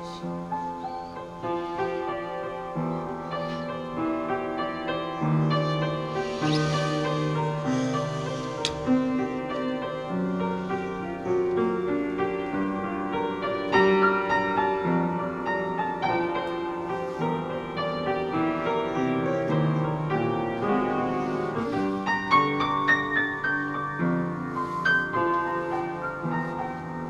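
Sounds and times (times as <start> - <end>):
solo piano playing: 0.0 - 24.6.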